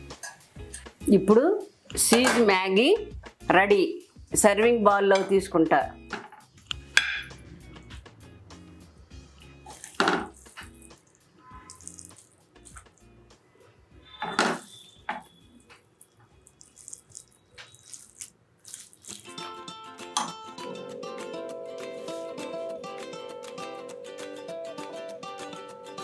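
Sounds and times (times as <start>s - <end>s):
soft background music: 0.0s - 26.0s.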